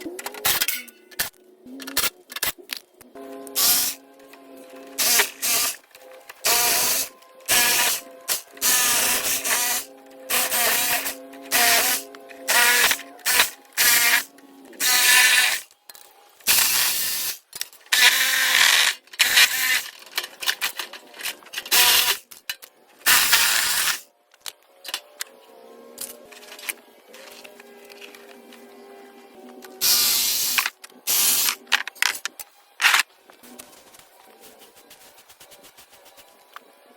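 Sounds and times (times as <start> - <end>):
background music with held notes: 0.0 - 34.5.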